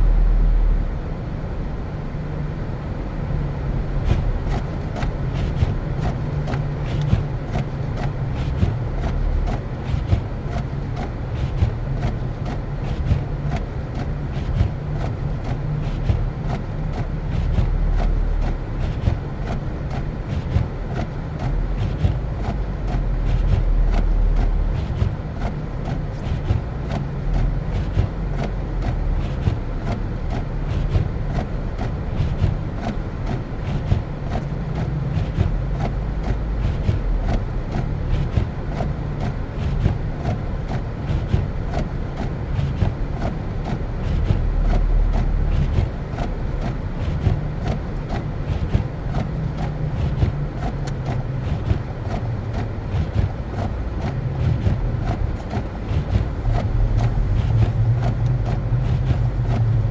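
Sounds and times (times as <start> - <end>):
car driving on snow: 0.0 - 59.9.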